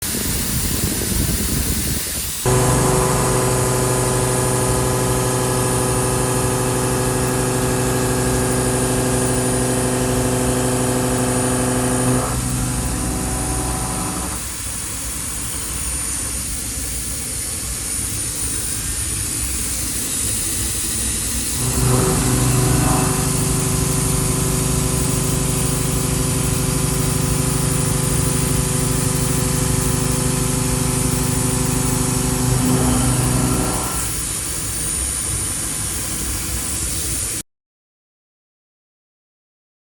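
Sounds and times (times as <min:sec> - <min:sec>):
thin high whine: 0:00.2 - 0:37.4
milling cutter whine: 0:01.8 - 0:17.4, 0:18.0 - 0:37.3.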